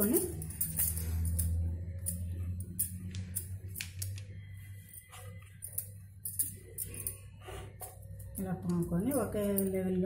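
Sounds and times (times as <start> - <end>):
bangles clinking: 0.0 - 10.0
low steady hum: 0.0 - 10.0.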